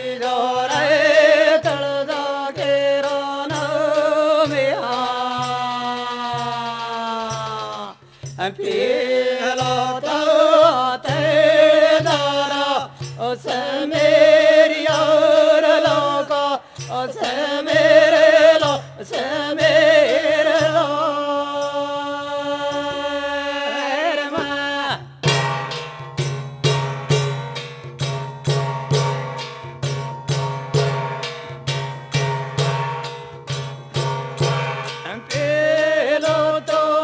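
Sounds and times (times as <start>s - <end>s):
steady low drum beat: 0.0s - 21.1s, 24.4s - 37.0s
men singing devotional folk song: 0.0s - 25.9s, 32.8s - 37.0s.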